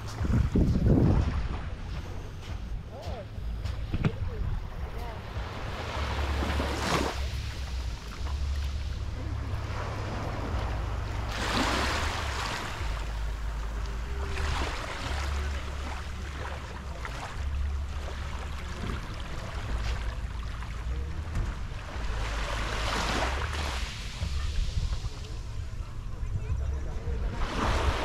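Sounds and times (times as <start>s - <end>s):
wind rumble on microphone: 0.0s - 28.0s
small waves washing up beach: 3.6s - 25.8s, 27.1s - 28.0s.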